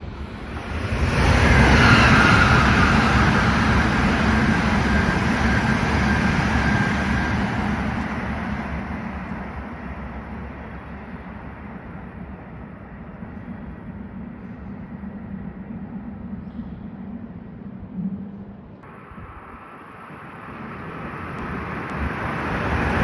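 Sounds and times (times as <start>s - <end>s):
train passing with whine: 0.0s - 23.0s.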